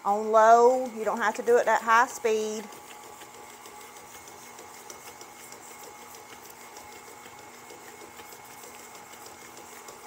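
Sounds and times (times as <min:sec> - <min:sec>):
stand mixer motor hum: 0:00.0 - 0:10.0.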